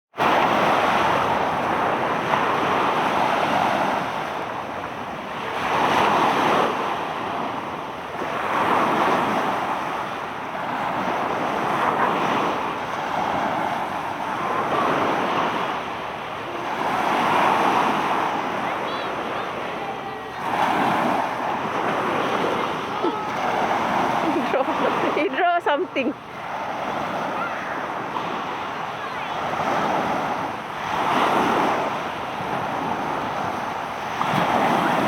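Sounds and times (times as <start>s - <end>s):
ocean waves breaking: 0.1s - 35.0s.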